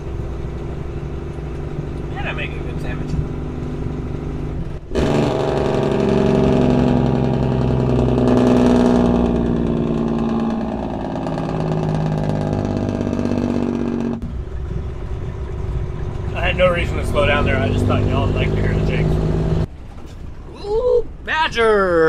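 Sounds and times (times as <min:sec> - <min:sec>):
large truck engine running: 0:00.0 - 0:20.0.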